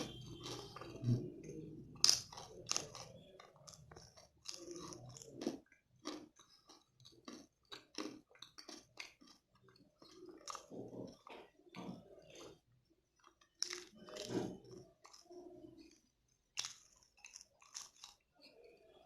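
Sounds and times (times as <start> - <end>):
chewing crunchy peanut candy: 0.0 - 19.0.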